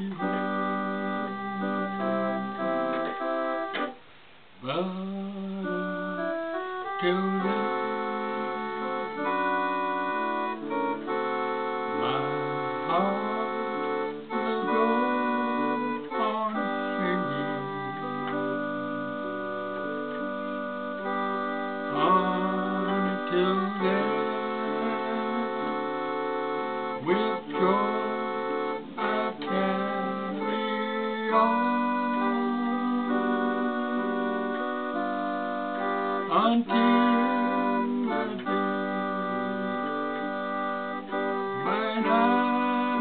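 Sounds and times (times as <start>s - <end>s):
electronic organ chords: 0.0s - 43.0s.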